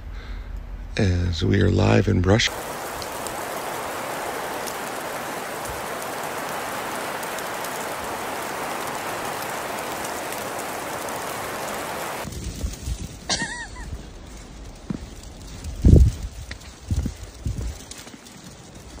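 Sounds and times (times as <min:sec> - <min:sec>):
precipitation pattering: 0:02.5 - 0:19.0.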